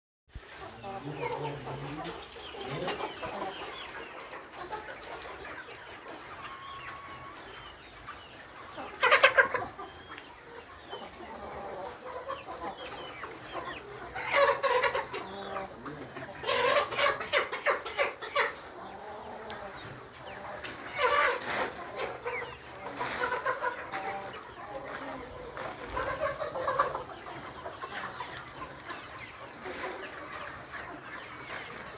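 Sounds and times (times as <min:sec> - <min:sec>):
hens clucking: 0:00.3 - 0:31.9.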